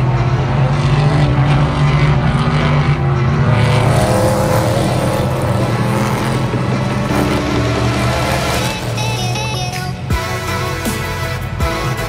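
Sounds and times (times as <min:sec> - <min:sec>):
race cars passing: 0:00.0 - 0:12.0.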